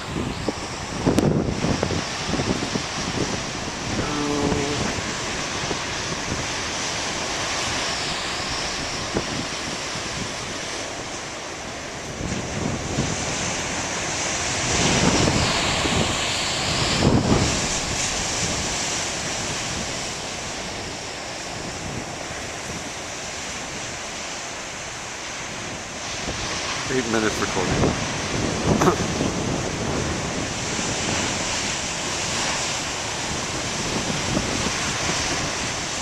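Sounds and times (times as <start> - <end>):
ocean waves breaking: 0.0 - 36.0
wind buffeting microphone: 0.0 - 36.0.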